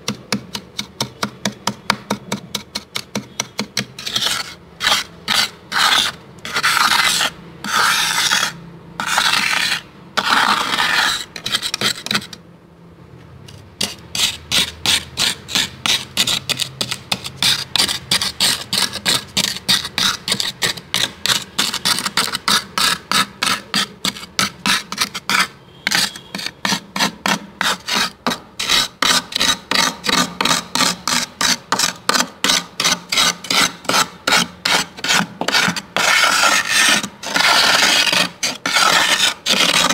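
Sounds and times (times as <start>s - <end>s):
plastic scraper scraping frost: 3.0s - 12.4s, 13.8s - 39.9s.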